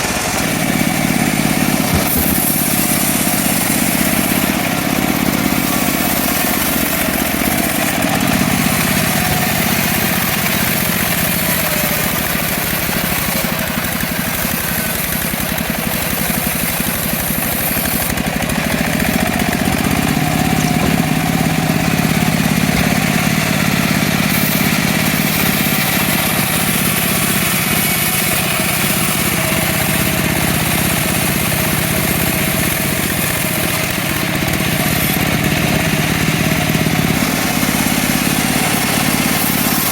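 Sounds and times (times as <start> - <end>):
petrol engine of a sawmill running: 0.0 - 39.9.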